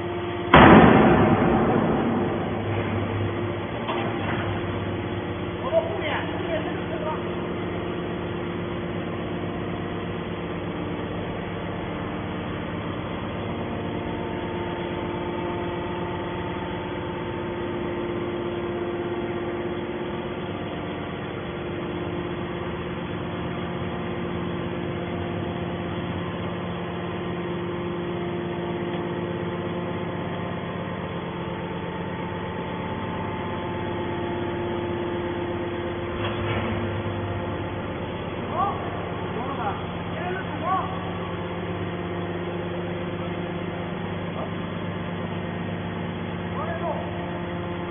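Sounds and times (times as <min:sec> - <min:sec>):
baler motor and pump hum: 0:00.0 - 0:47.9.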